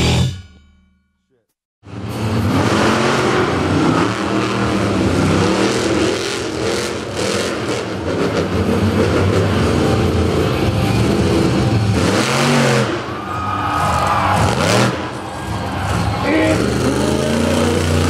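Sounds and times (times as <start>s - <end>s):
truck engine revving: 1.8s - 18.0s.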